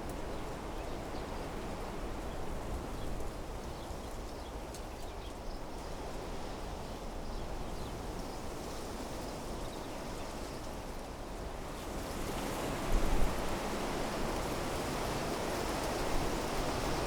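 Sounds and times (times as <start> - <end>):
wind through trees: 0.0 - 17.0.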